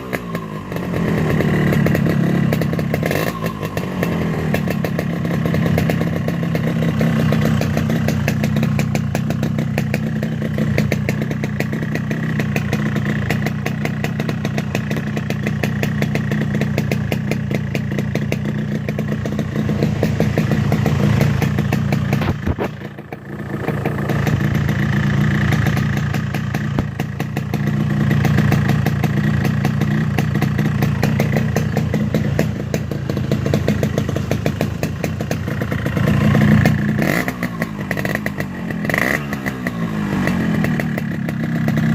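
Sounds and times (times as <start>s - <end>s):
two-stroke motorcycle idling: 0.0s - 41.9s.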